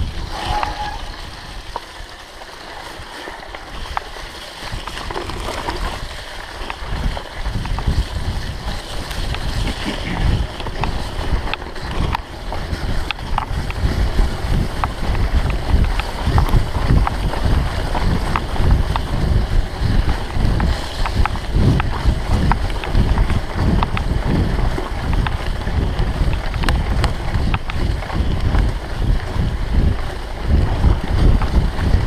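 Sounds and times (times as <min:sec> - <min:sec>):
wind buffeting microphone: 0:00.0 - 0:02.1, 0:04.6 - 0:32.0
bike clicks and rattles: 0:00.0 - 0:32.0
bike tyres rolling over dirt: 0:00.0 - 0:32.0.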